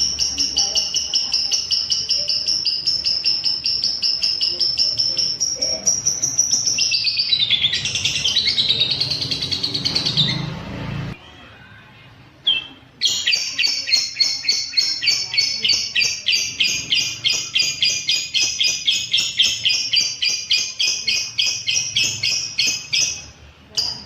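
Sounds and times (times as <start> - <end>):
lovebird chattering calls: 0.0 - 10.6, 12.5 - 24.0.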